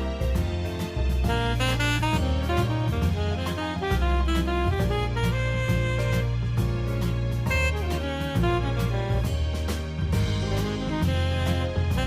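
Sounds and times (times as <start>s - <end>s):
saxophone-led jazz music: 0.0s - 12.0s.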